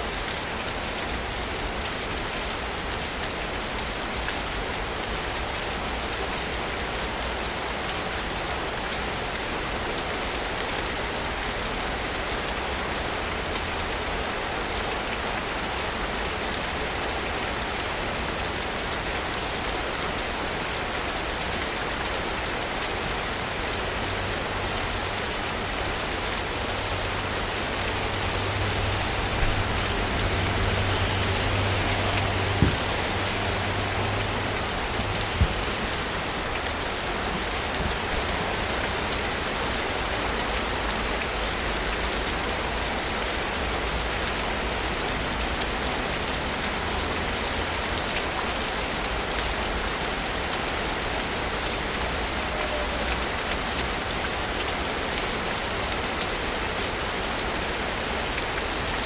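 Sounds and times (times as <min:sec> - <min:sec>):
rain hissing on surfaces: 0:00.0 - 0:59.0.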